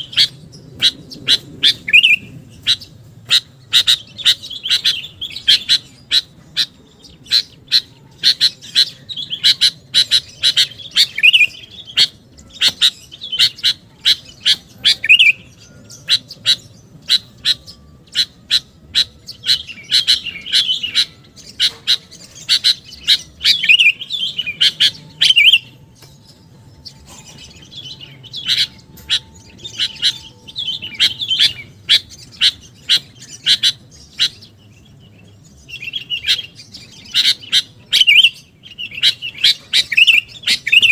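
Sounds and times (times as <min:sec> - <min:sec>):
bulbul calling: 0:00.0 - 0:40.9.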